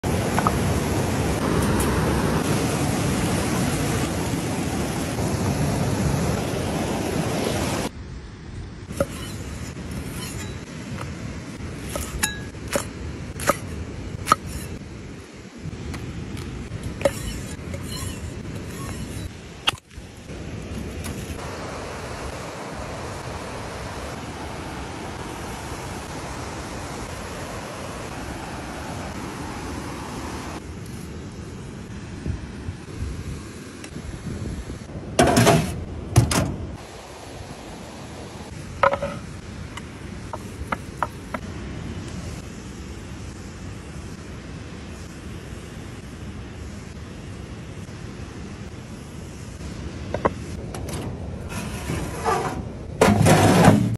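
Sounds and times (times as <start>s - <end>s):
stream rushing over rocks: 0.0s - 7.9s, 8.9s - 48.9s.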